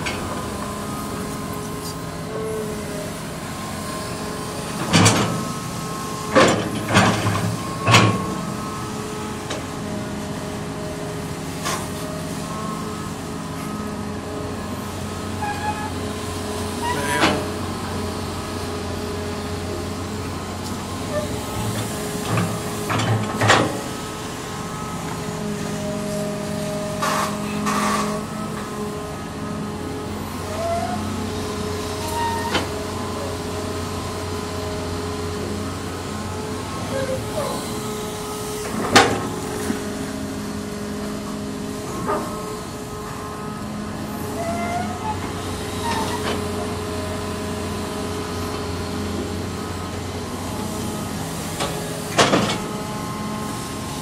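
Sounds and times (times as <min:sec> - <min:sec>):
excavator engine droning: 0:00.0 - 0:54.0.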